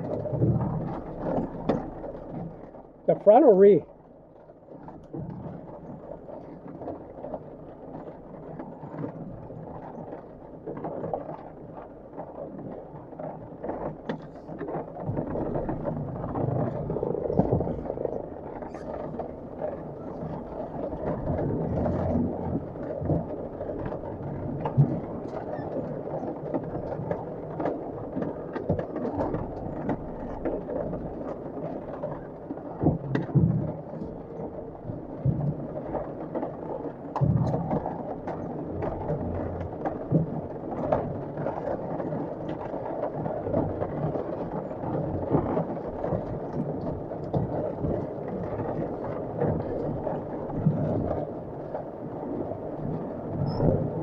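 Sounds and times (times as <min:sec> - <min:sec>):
knocks and clunks from vehicle body: 0:00.0 - 0:03.0, 0:04.6 - 0:54.0
heavy rain drumming on a vehicle: 0:00.0 - 0:54.0.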